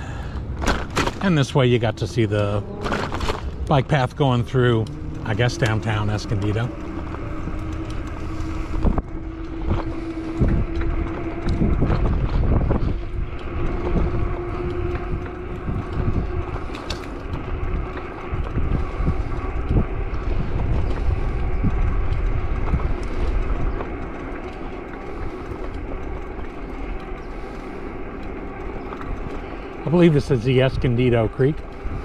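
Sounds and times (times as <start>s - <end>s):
bicycle rolling on pavement: 0.0s - 32.0s
wind buffeting microphone: 0.0s - 32.0s.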